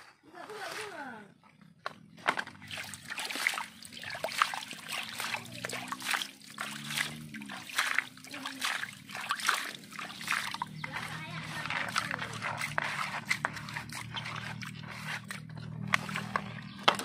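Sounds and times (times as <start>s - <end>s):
hand splashing muddy water: 2.6s - 16.8s.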